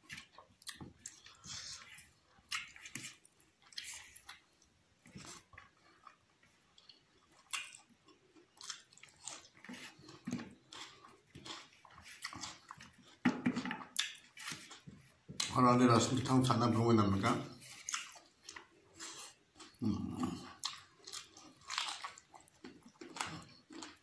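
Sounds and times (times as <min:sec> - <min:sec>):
man chewing with mouth smacks: 0:00.0 - 0:15.5, 0:17.5 - 0:24.0.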